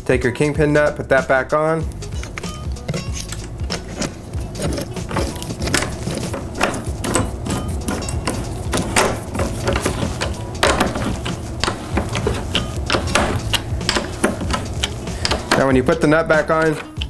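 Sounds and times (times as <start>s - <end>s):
metal clicks and scrapes: 1.9s - 17.0s.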